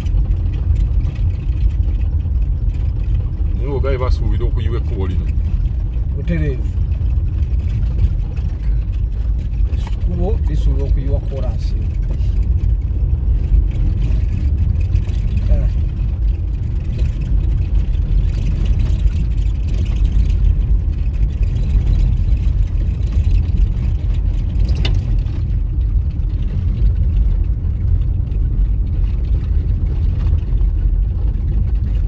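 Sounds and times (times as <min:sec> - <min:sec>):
car rumbling on dirt road: 0:00.0 - 0:32.0.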